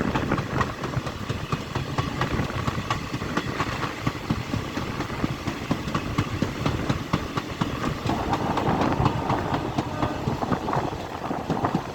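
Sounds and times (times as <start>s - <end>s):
train wheels clattering on rails: 0.0s - 11.9s.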